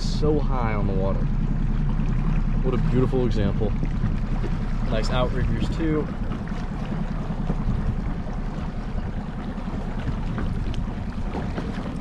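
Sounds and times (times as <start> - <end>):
outboard motor running: 0.0 - 12.0
water noise: 0.0 - 12.0
wind: 0.0 - 12.0.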